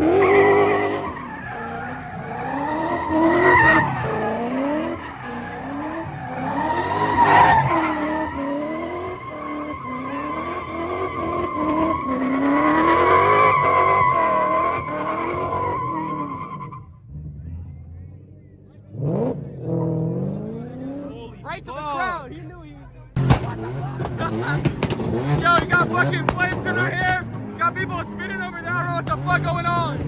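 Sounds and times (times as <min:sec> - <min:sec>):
engine revving: 0:00.0 - 0:16.3, 0:17.0 - 0:21.5, 0:23.1 - 0:30.0
car tyres squealing: 0:00.0 - 0:17.6, 0:18.5 - 0:30.0.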